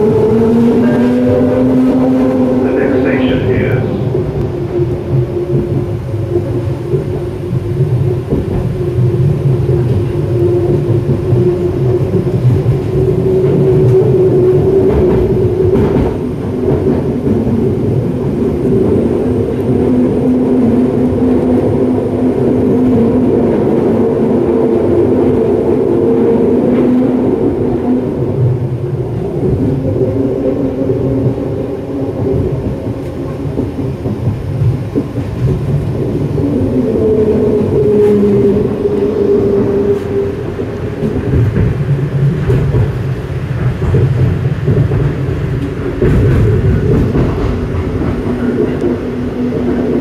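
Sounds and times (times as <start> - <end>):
wheels rumbling on track: 0.0 - 50.0.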